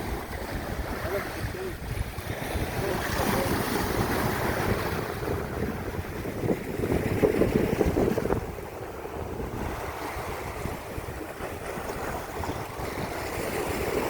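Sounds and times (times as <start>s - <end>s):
sea waves washing: 0.0s - 14.0s
wind buffeting microphone: 0.0s - 14.0s.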